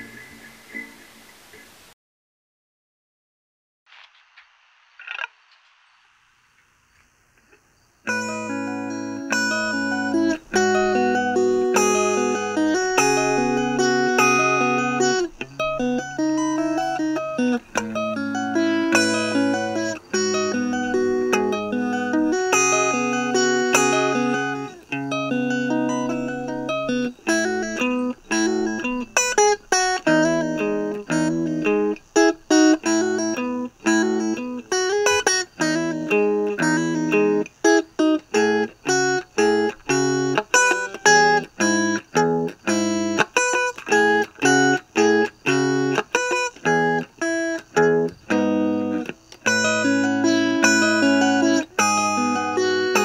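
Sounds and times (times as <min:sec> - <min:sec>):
electric guitar chords: 0:08.1 - 0:53.0.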